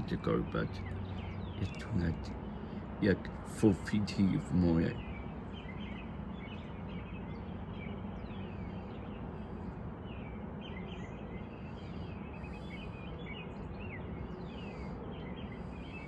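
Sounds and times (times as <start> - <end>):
outdoor background rumble: 0.0 - 16.0
small birds chirping: 0.0 - 16.0.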